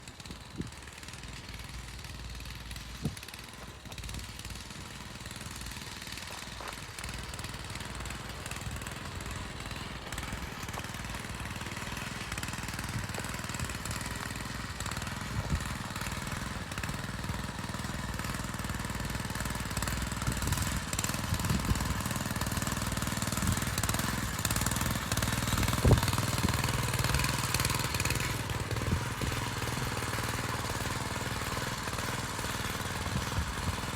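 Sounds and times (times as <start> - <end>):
small tiller engine running: 0.0 - 33.9.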